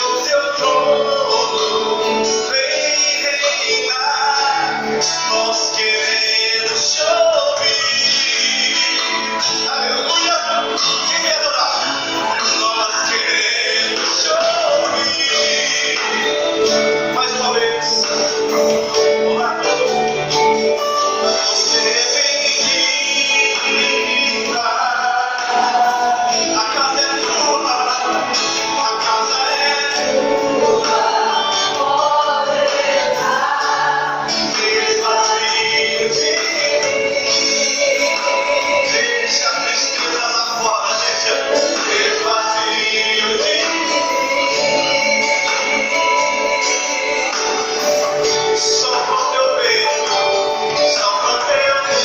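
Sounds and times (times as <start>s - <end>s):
instrumental backing music: 0.0s - 52.0s
voices singing a hymn: 0.0s - 52.0s.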